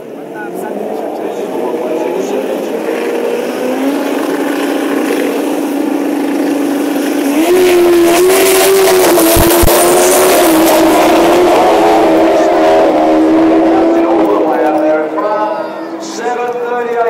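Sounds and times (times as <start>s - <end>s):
motorcycle engine at high rev: 0.0s - 15.6s.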